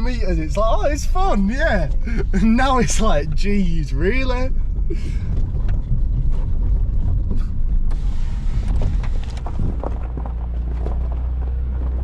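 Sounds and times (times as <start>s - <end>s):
car engine and road rumble: 0.0s - 12.0s
suspension creaking and knocking: 0.0s - 12.0s.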